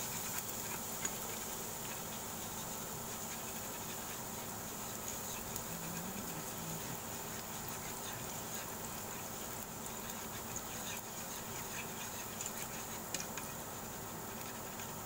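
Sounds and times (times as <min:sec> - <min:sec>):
garlic sizzling in oil: 0:00.0 - 0:15.0
spatula scraping and tapping pan: 0:00.0 - 0:15.0.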